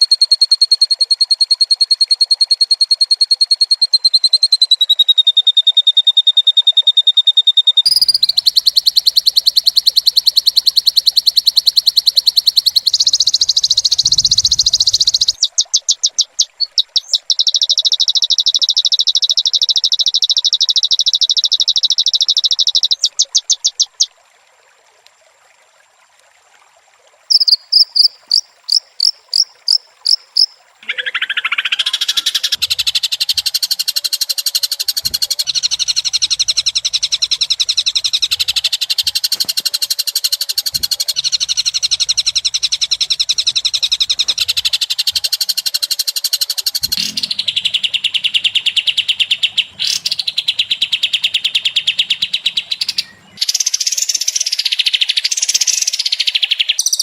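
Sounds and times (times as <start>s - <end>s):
recorded birdsong with fast trill: 1.0s - 24.1s, 27.3s - 57.0s.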